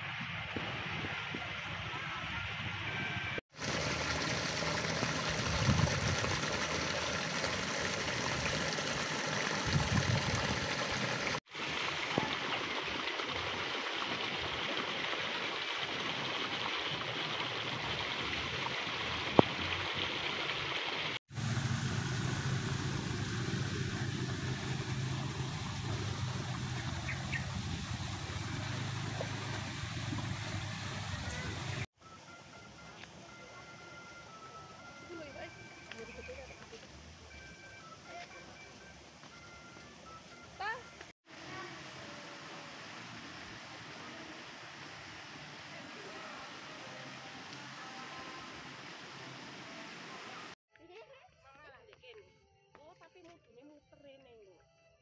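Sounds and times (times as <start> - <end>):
steady outdoor hiss: 0.0 - 50.6.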